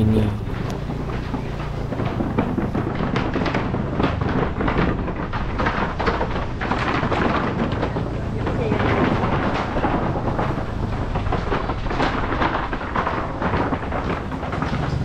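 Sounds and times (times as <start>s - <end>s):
motorcycle engine running: 0.0s - 12.6s, 13.4s - 15.0s
wooden boards clattering under tyres: 0.0s - 15.0s.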